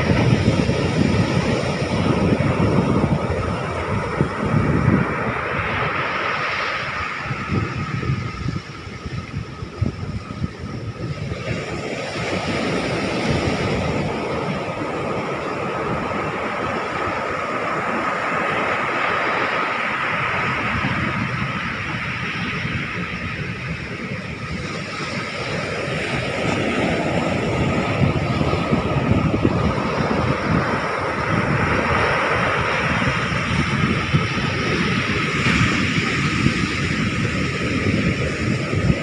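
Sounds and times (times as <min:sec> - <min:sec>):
steady rushing roar: 0:00.0 - 0:39.0
wind buffeting microphone: 0:00.0 - 0:39.0.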